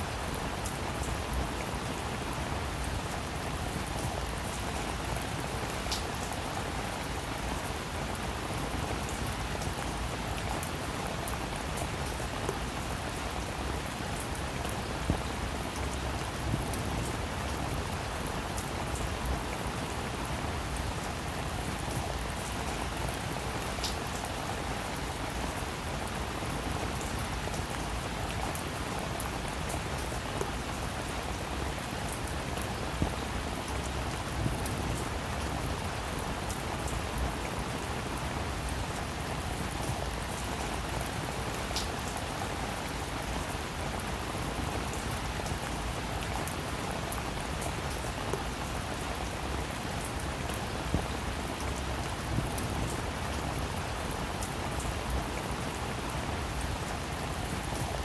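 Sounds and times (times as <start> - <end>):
raindrops ticking on a surface: 0.0 - 58.0
steady rain hiss: 0.0 - 58.0.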